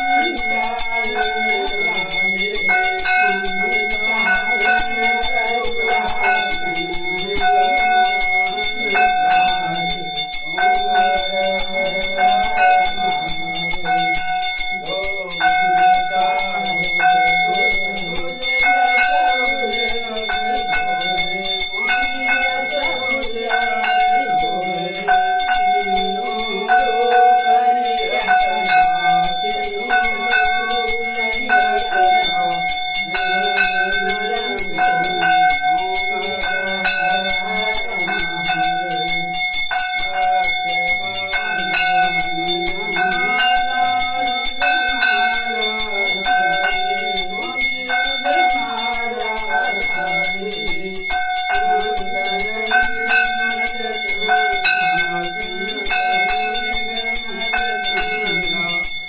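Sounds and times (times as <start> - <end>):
hand bell rung rapidly: 0.0 - 59.0.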